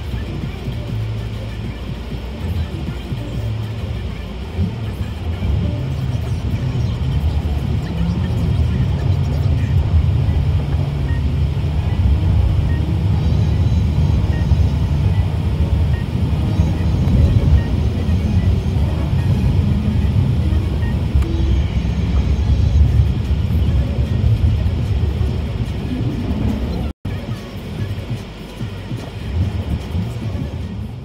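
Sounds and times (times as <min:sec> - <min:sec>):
car engine rumble: 0:00.0 - 0:31.0
music playing: 0:00.0 - 0:31.0
tyres on snowy road: 0:00.0 - 0:31.0.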